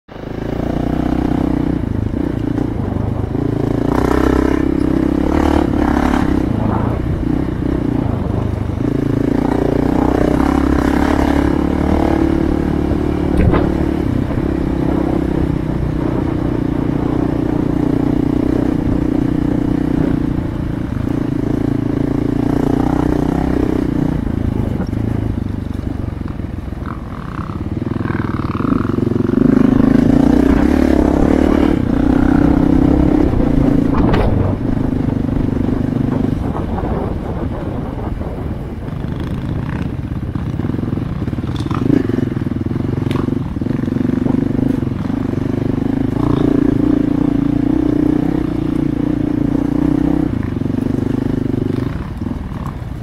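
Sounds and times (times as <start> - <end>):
motorcycle engine running: 0.1 - 53.0.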